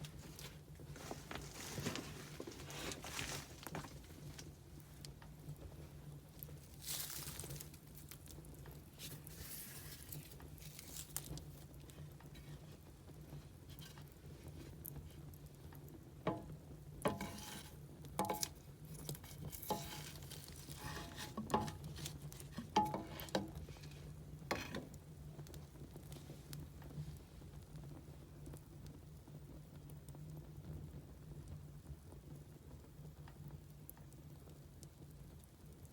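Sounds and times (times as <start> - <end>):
firewood crackling and popping: 0.0 - 35.9.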